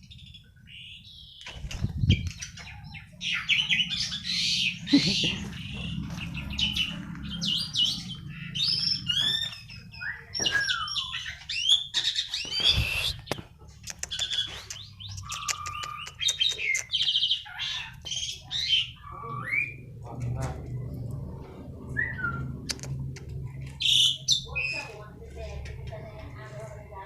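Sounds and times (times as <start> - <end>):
songbird singing: 0.0 - 26.9.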